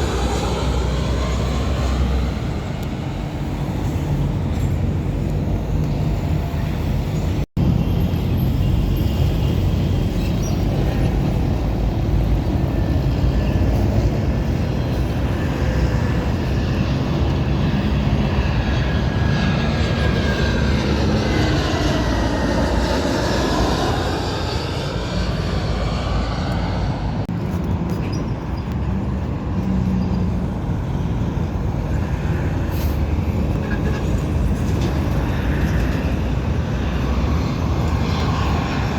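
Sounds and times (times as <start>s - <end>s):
jet airliner passing overhead: 0.0s - 38.9s.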